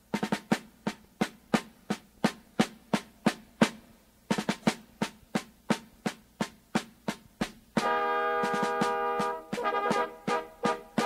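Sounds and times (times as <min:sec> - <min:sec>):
drum beating sharp strokes: 0:00.0 - 0:11.0.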